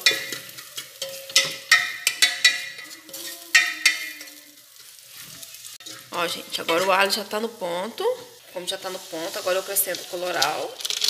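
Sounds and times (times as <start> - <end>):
wooden spoon scraping pot: 0.0 - 7.3, 8.0 - 11.0
garlic sizzling in oil: 0.0 - 11.0.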